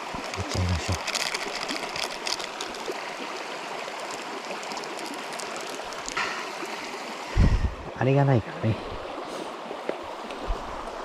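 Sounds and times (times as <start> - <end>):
river water running: 0.0 - 11.0.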